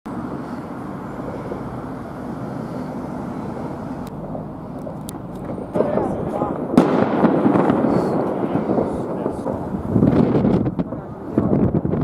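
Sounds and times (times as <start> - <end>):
city background rumble: 0.1 - 12.0.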